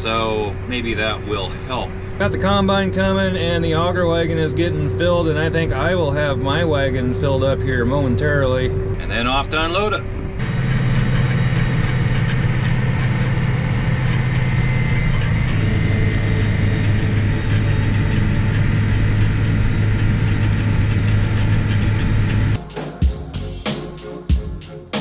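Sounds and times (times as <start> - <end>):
tractor engine drone: 0.0 - 25.0.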